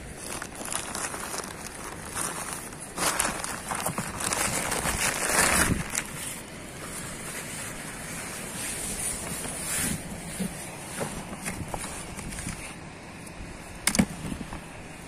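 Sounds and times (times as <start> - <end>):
plastic bags rustling: 0.0 - 12.8
wind noise on microphone: 0.0 - 15.0.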